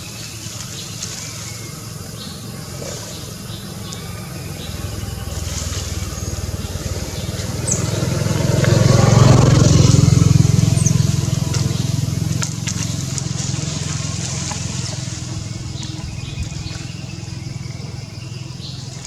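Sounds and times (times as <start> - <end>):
vehicle engine passing: 0.0 - 19.0.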